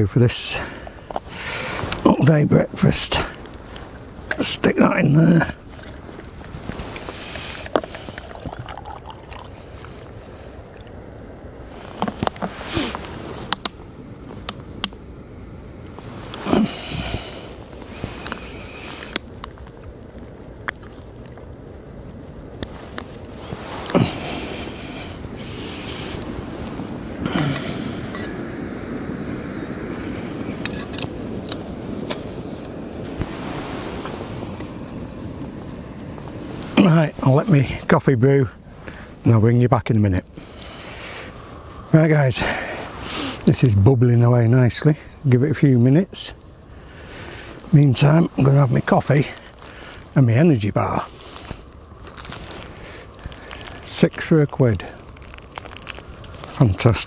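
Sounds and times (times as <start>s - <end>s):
gas stove burning hiss: 0.2s - 57.0s.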